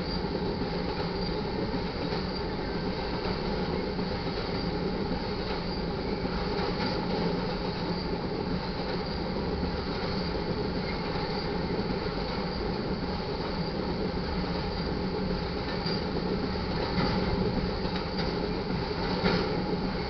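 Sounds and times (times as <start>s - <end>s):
freight train wheels rattling: 0.0s - 20.0s.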